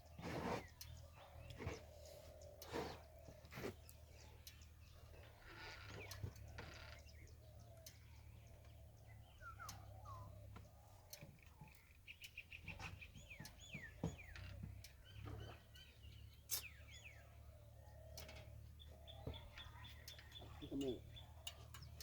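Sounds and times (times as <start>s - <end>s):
faint bird calls: 0.0s - 22.0s.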